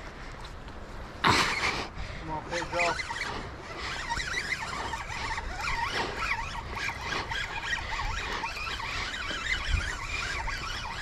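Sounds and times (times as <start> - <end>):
wind rumbling on microphone: 0.0 - 11.0
high wavering squeaks and chirps: 1.4 - 11.0.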